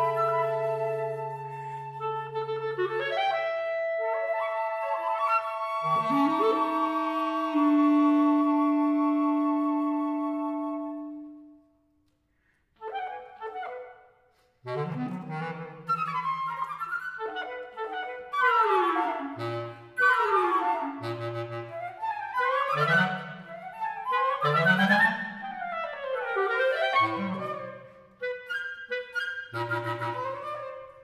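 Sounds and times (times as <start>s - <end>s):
woodwind quartet playing: 0.0s - 11.5s, 14.7s - 31.0s.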